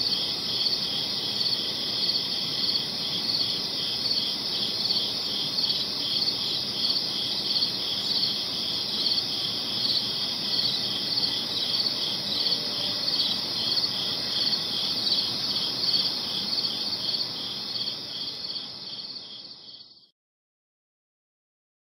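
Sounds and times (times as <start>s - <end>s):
faint background hiss: 0.0s - 20.0s
crickets chirping: 0.0s - 20.1s.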